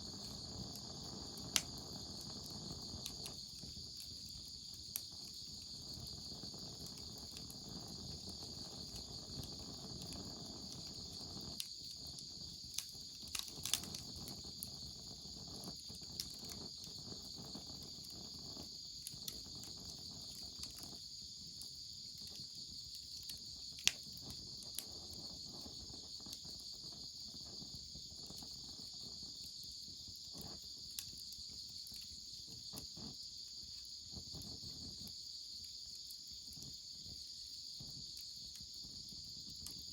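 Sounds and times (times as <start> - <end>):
wood fire popping and crackling: 0.0 - 29.4, 30.2 - 35.1
insects chirping: 0.0 - 39.9.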